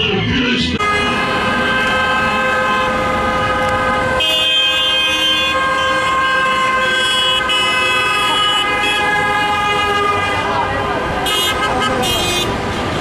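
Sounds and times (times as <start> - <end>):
car horns blasting: 0.7 - 13.0.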